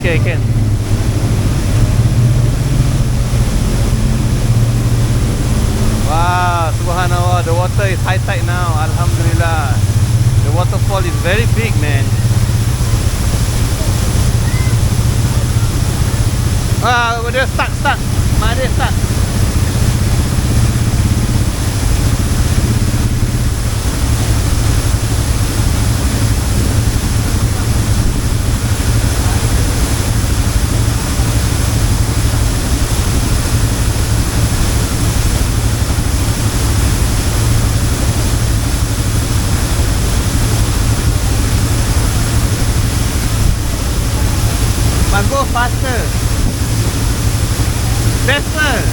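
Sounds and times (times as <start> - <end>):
atv engine running: 0.0 - 48.9
heavy low rumble: 0.0 - 48.9
rushing water: 0.0 - 48.9.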